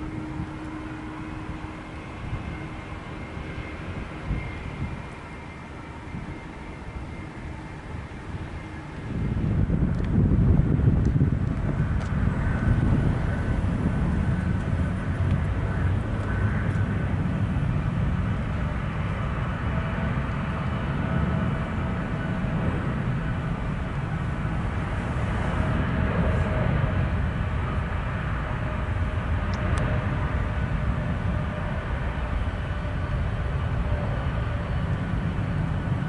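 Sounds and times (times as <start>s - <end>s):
jet engines rumbling and whining: 0.0s - 36.0s.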